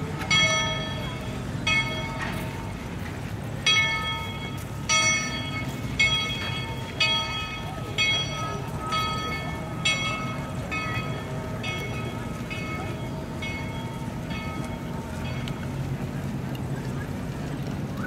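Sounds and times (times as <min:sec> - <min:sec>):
locomotive bell ringing: 0:00.0 - 0:17.4
moving train rumble: 0:00.0 - 0:18.0.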